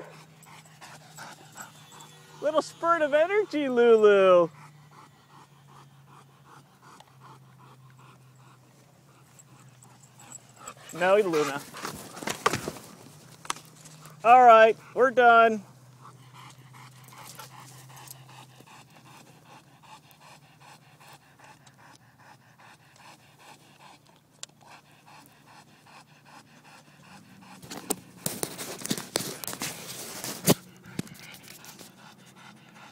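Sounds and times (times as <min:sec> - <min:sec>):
dogs panting: 0:00.0 - 0:32.9.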